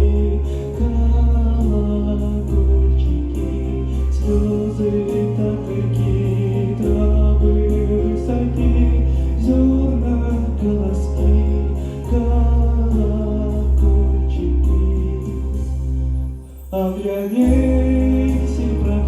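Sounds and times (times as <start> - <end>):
steady beat: 0.0 - 15.9, 17.4 - 19.0
deep bass line: 0.0 - 19.0
person singing: 0.0 - 19.0
sustained accompaniment: 0.0 - 19.0.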